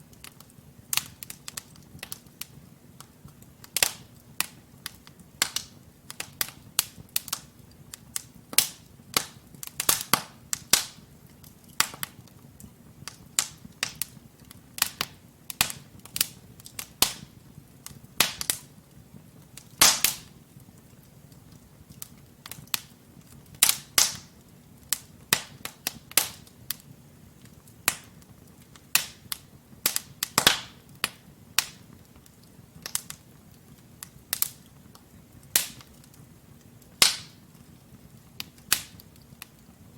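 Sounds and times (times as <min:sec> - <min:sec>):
low steady fire hiss: 0:00.0 - 0:39.9
wood fire crackling and popping: 0:00.0 - 0:39.9.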